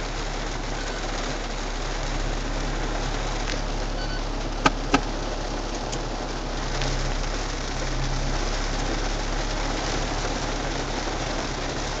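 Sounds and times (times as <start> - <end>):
rain on car roof: 0.0 - 12.0.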